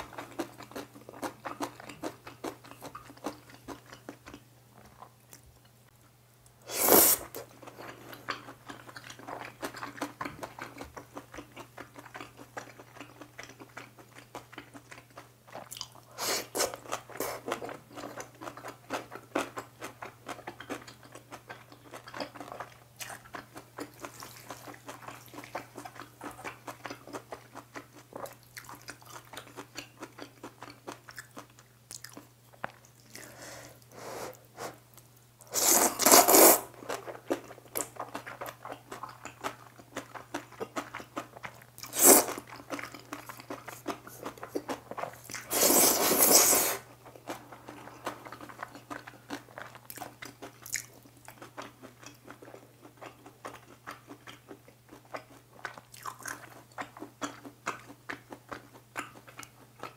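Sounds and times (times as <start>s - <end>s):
wet chewing and crunching: 0.0s - 5.8s, 7.4s - 33.4s, 35.0s - 59.9s.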